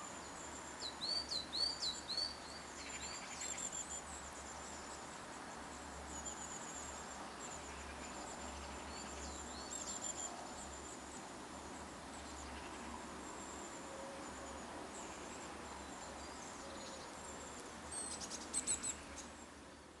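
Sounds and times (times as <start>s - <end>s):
songbirds chirping and trilling: 0.0s - 20.0s
steady background hiss: 0.0s - 20.0s.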